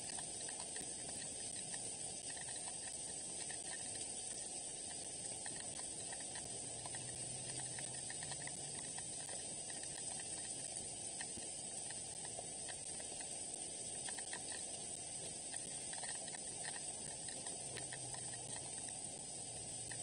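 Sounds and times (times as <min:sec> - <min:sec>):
faint low hum: 0:00.0 - 0:20.0
light rain hiss: 0:00.0 - 0:20.0.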